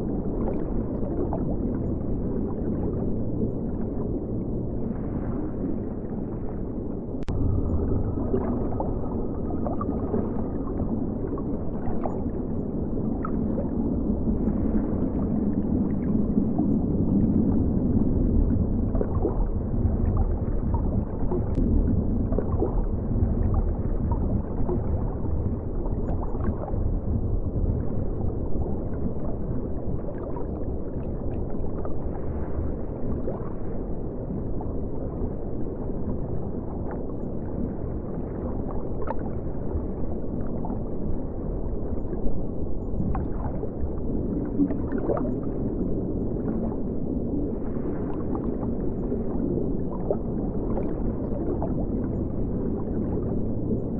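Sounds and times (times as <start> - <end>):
muffled river water rushing: 0.0 - 53.9.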